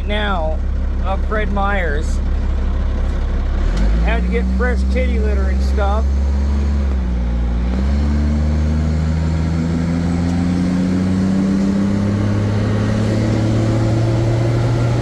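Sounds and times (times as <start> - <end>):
bus engine accelerating: 0.0 - 15.0.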